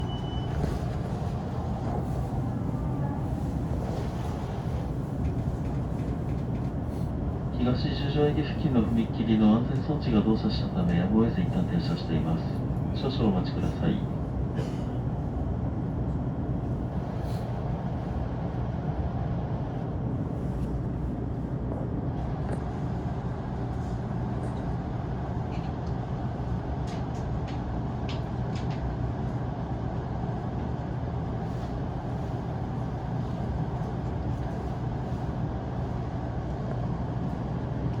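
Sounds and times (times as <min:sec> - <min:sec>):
low hum inside train car: 0:00.0 - 0:38.0.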